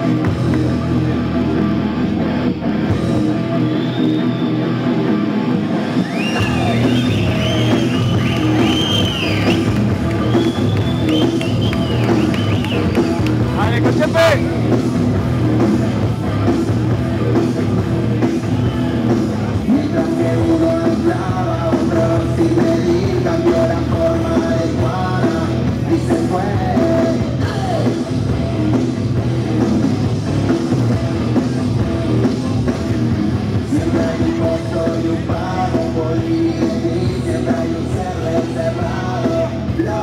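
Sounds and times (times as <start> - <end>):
rock music with singing: 0.0 - 40.0.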